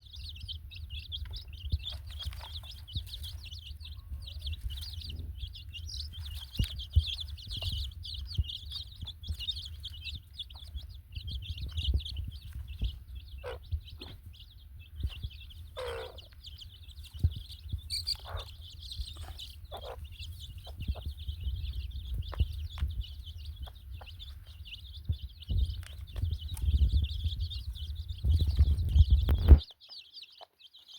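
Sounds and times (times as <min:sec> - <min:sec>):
chickens clucking: 0:00.0 - 0:30.9
dense high-pitched chirping: 0:00.0 - 0:30.9.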